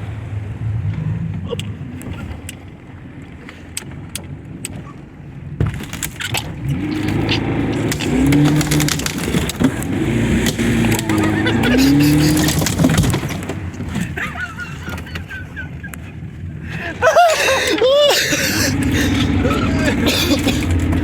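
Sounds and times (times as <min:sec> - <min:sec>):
outboard motor revving: 0:00.0 - 0:21.0.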